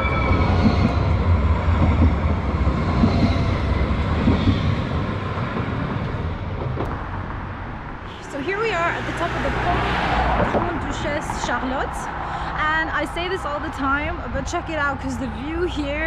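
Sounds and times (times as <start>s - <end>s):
tram passing on rails: 0.0s - 16.0s.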